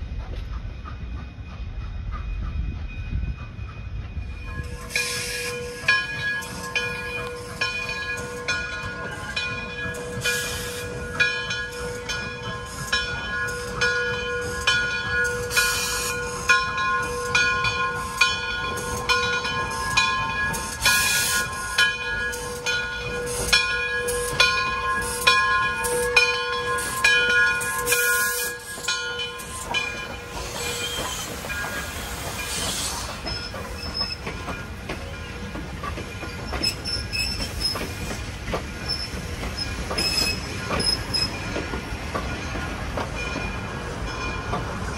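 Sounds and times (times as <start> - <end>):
steam locomotive approaching: 0.0 - 44.9
locomotive bell ringing: 0.6 - 44.9
steam hissing: 4.2 - 44.9.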